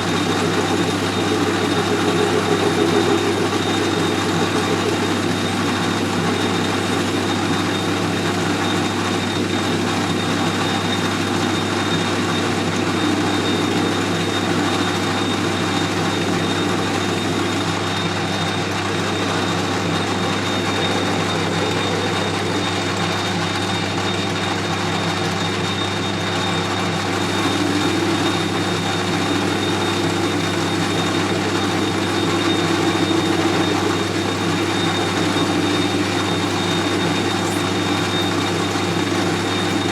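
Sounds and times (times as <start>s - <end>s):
high-pitched whine: 0.0s - 39.9s
metal lathe motor hum: 0.0s - 39.9s.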